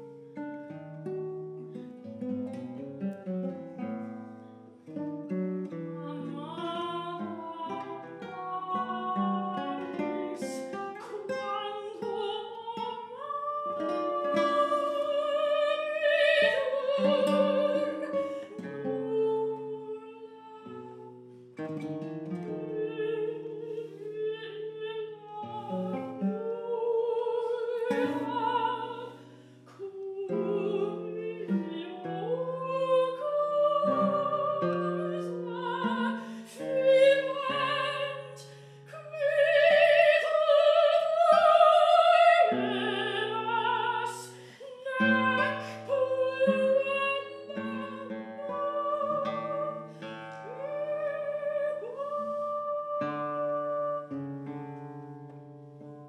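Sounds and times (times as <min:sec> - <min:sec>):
classical guitars playing: 0:00.0 - 0:56.0
soprano singing: 0:00.0 - 0:56.0.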